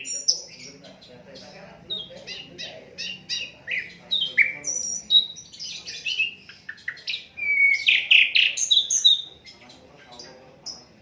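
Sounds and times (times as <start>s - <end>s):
flycatcher singing: 0.0s - 11.0s.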